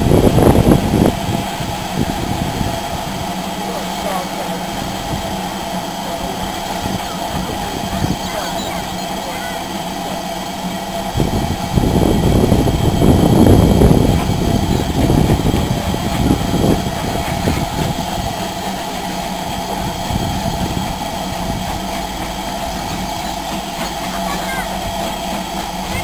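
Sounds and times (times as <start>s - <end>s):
steam locomotive running: 0.0s - 26.0s.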